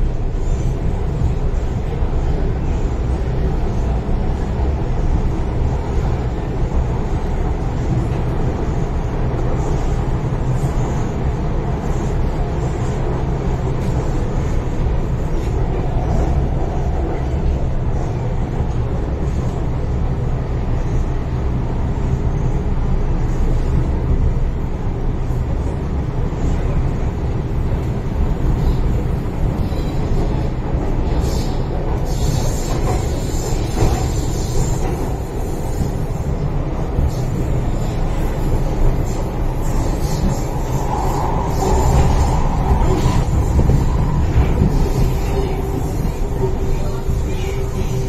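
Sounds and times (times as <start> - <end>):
train running noise: 0.0 - 48.0.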